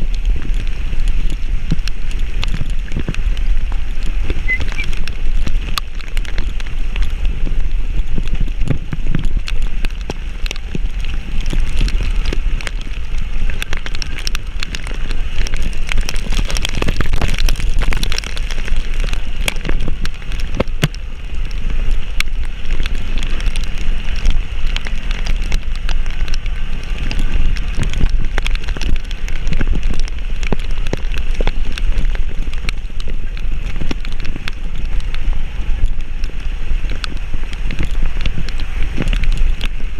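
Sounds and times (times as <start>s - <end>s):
heavy rain: 0.0s - 39.9s
wind buffeting microphone: 0.0s - 39.9s.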